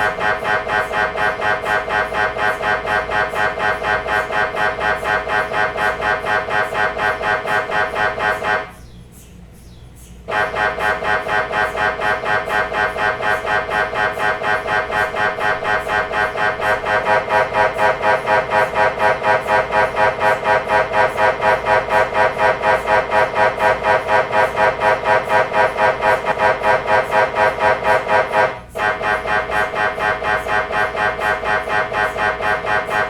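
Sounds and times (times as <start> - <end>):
mri scanner pulsing buzz: 0.0 - 8.9, 10.3 - 33.0.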